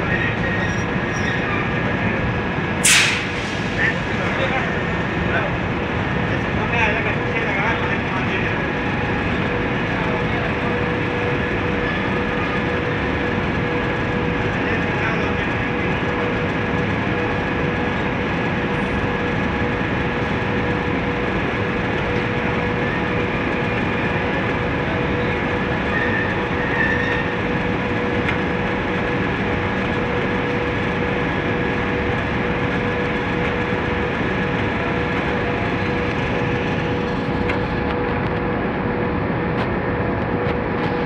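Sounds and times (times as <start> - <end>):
constant hum: 0.0 - 41.0
conveyor rumble: 0.0 - 41.0.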